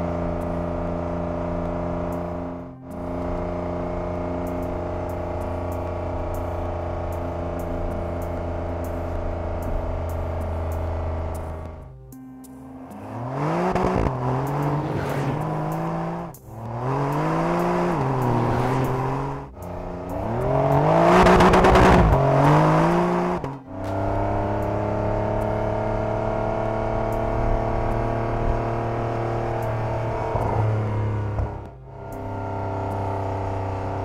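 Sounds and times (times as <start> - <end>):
car engine accelerating hard: 0.0 - 11.9, 12.8 - 34.0.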